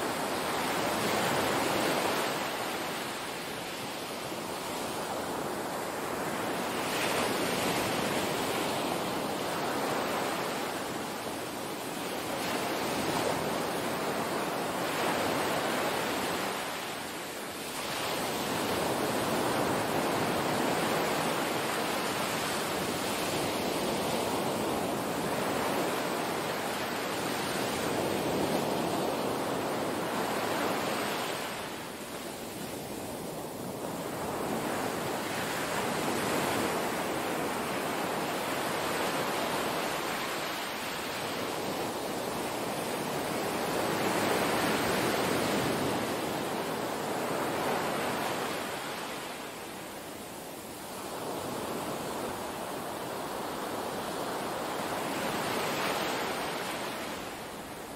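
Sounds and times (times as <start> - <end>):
small waves washing on sand: 0.0 - 57.9.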